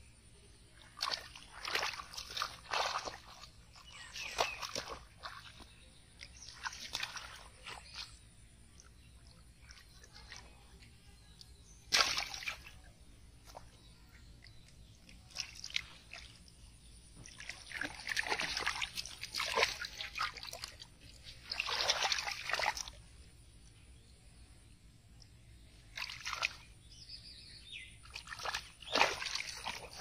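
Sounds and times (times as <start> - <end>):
muddy water splashing: 0.4 - 23.7, 25.2 - 30.0.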